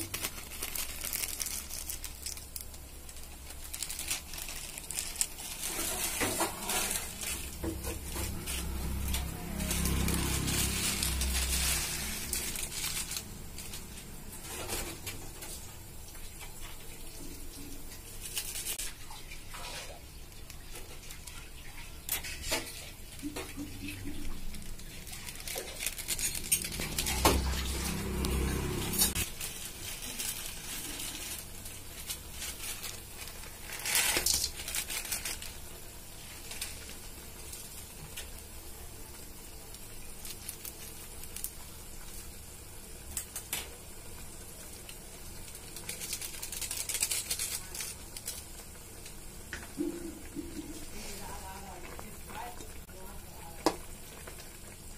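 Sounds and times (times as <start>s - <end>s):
broth simmering: 0.0s - 54.9s.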